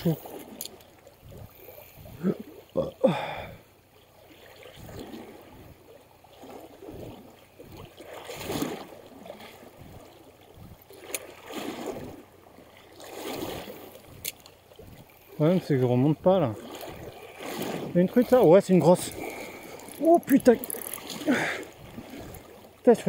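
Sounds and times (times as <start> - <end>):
rushing river current: 4.2 - 23.0.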